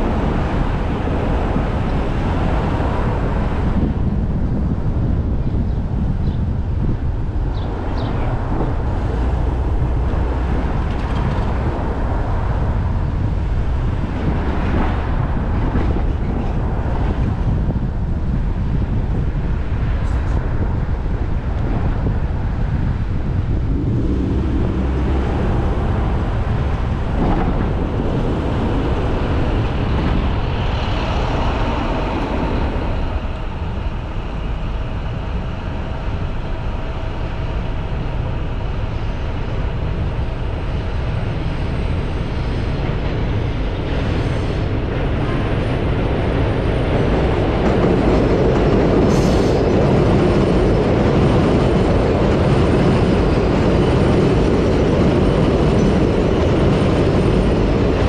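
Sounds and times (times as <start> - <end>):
vehicle rumble in traffic: 0.0 - 58.0.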